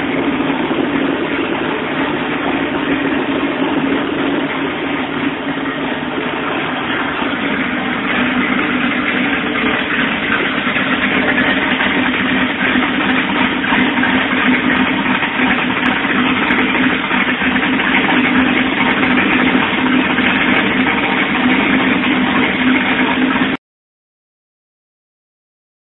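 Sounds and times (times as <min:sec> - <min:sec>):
car engine idling: 0:00.0 - 0:23.6.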